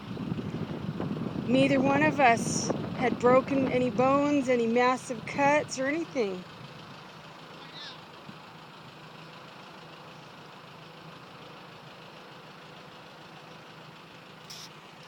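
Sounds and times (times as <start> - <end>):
faint vehicle engine idling: 0.0 - 15.0.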